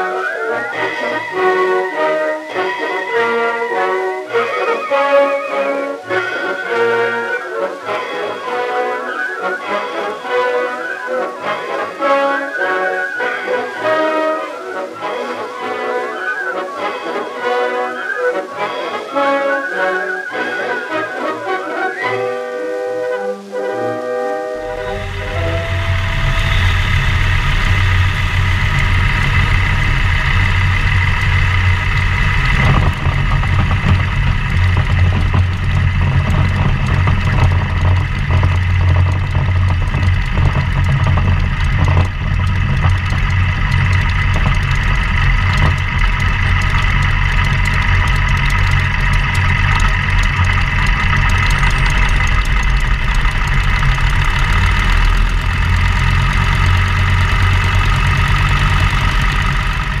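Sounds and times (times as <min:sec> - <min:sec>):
radial aircraft engine running: 0:00.0 - 1:00.0.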